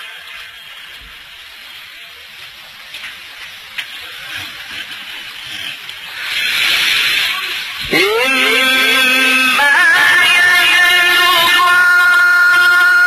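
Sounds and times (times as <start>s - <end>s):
recording hiss: 0.0s - 13.0s.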